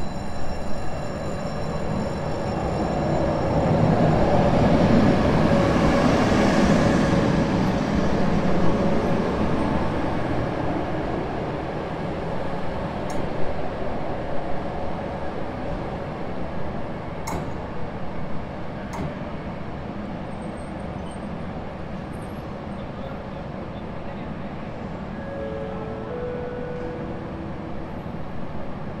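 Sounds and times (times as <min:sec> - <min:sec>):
rumble of wheels on rail: 0:00.0 - 0:29.0.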